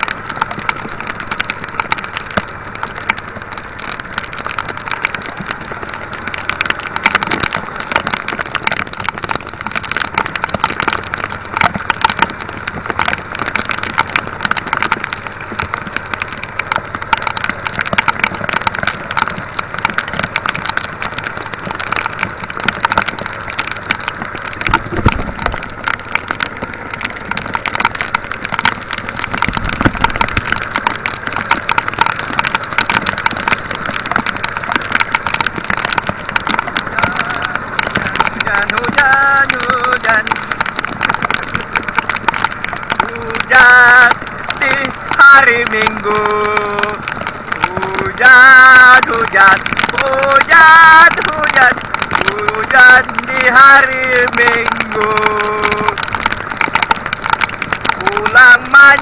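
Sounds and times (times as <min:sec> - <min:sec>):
heavy rain on water: 0:00.0 - 0:59.0
raindrops pattering on a boat: 0:00.0 - 0:59.0.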